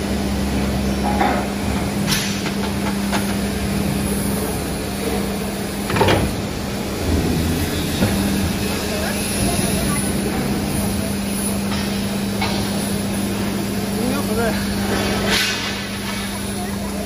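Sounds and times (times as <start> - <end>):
plate rolling machine humming: 0.0 - 17.0.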